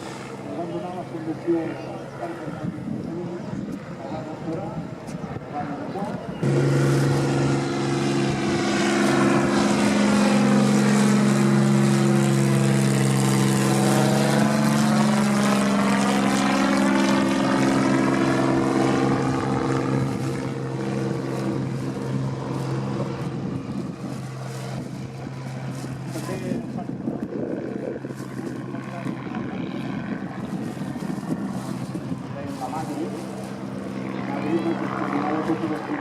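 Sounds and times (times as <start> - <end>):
propeller plane passing low: 0.0 - 36.0.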